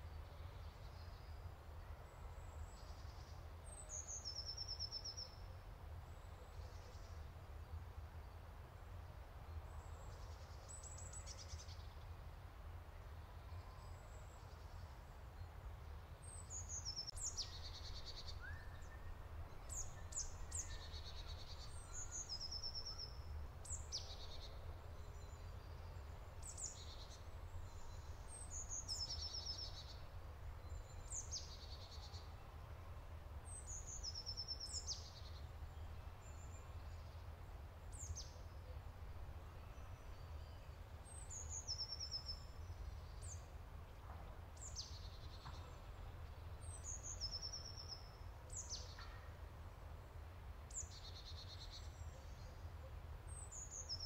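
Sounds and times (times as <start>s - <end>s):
songbirds singing: 0.0s - 12.3s, 13.1s - 54.0s.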